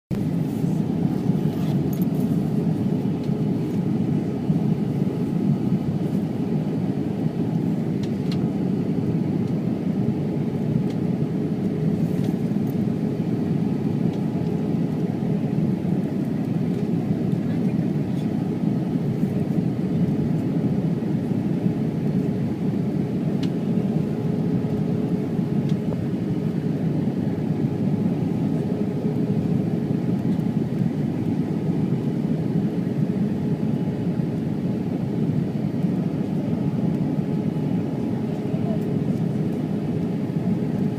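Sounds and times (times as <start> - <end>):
jet engine and airflow drone: 0.1 - 40.9.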